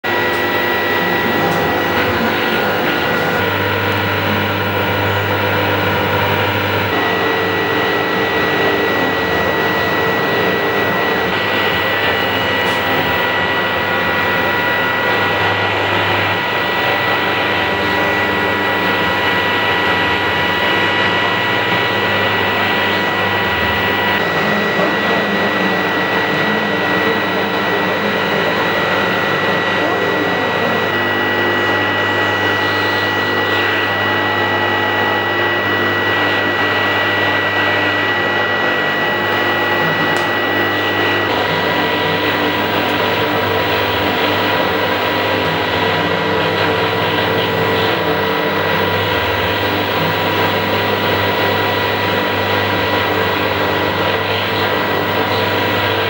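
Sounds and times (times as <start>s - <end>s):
static drone: 0.0s - 56.0s
low electronic hum: 0.1s - 56.0s.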